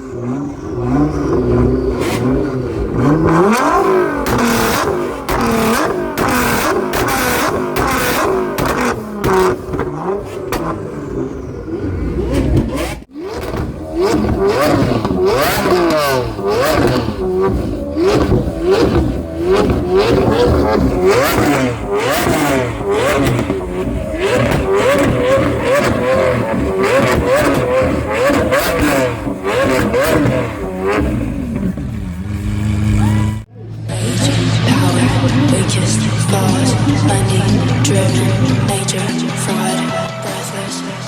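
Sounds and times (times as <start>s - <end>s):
sharp exhaust cracks: 0.0s - 40.4s
car engine revving hard: 0.0s - 41.0s.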